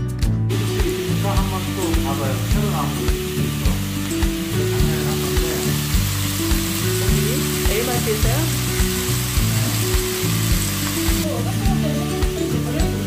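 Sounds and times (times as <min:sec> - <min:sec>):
background music with steady beat: 0:00.0 - 0:13.0
meat and mushrooms sizzling: 0:00.5 - 0:13.0.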